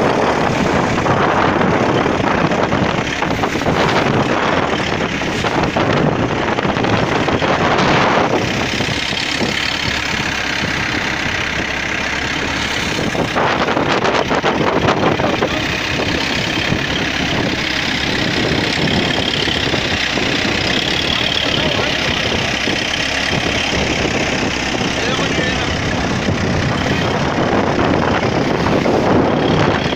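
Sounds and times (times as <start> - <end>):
boat engine running: 0.0 - 29.9
rush of wind and water: 0.0 - 29.9.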